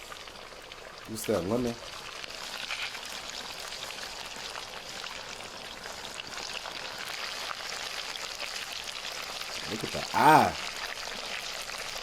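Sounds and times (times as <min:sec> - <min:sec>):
fish sizzling and crackling: 0:00.0 - 0:12.0.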